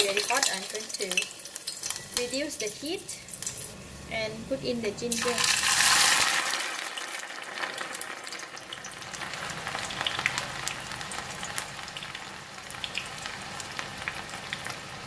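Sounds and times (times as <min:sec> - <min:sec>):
ginger sizzling in hot oil: 0:00.0 - 0:15.0.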